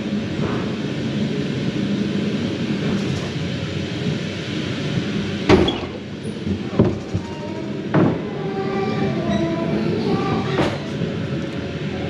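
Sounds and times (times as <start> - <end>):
ride car rumbling along track: 0.0 - 12.0.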